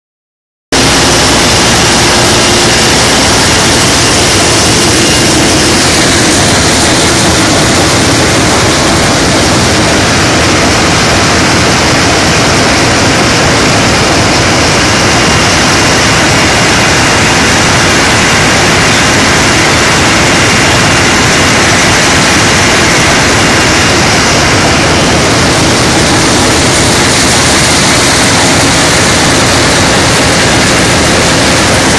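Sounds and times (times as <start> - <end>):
drilling rig machinery running: 0.7 - 31.9
constant hum: 0.8 - 31.9.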